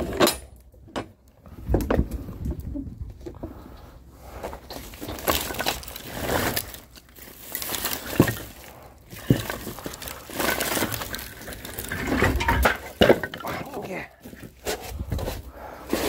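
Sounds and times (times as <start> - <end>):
rustling and crunching of wood: 0.0 - 16.0.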